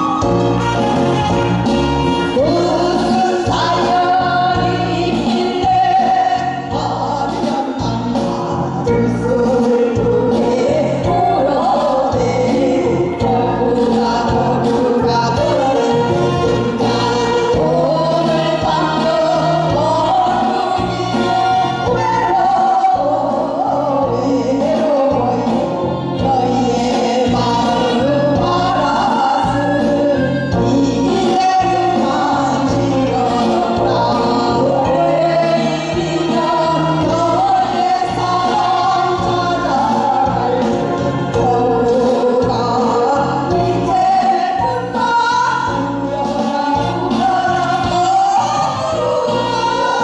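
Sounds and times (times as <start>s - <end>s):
backing track with bass line: 0.0s - 50.0s
instrumental accompaniment: 0.0s - 50.0s
women singing into microphones: 0.0s - 50.0s.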